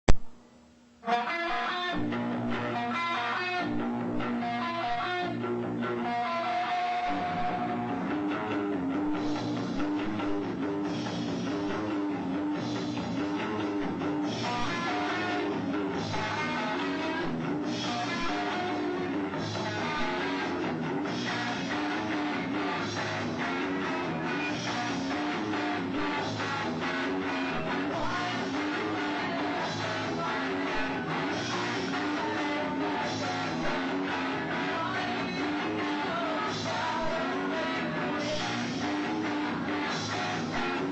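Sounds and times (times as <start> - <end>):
rock band playing live: 1.1 - 40.9.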